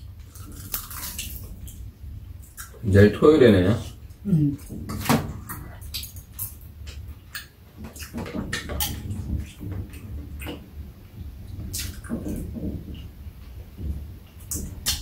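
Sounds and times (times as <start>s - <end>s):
people chewing and slurping: 0.0s - 3.2s, 3.8s - 15.0s.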